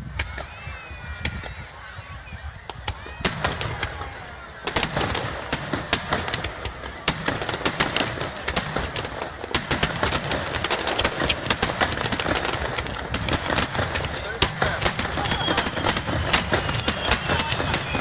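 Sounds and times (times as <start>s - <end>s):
fireworks cracking and banging: 0.0s - 18.0s.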